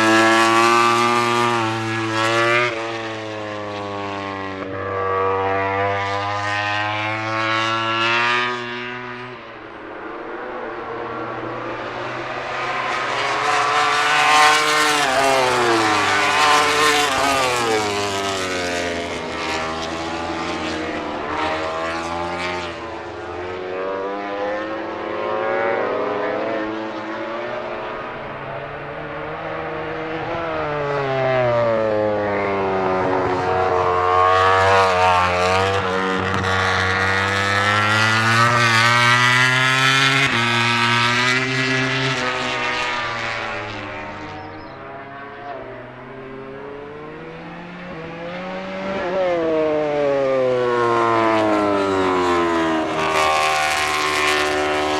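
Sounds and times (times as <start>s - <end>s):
racing motorcycle engines: 0.0s - 54.9s.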